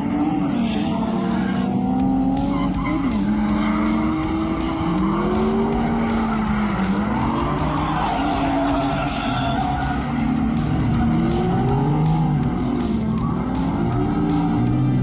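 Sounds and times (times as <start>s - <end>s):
car engine revving: 0.0s - 15.0s
tyres skidding and squealing: 0.0s - 15.0s.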